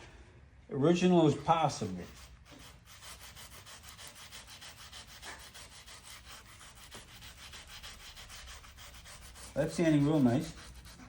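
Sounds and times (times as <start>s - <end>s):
sandpaper rubbing: 1.4s - 11.0s.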